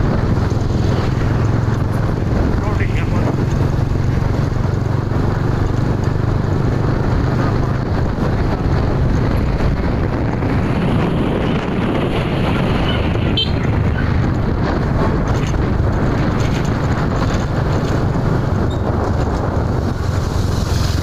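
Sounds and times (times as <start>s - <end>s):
vehicle engine and road noise: 0.0s - 21.0s
wind rush on microphone: 0.0s - 21.0s.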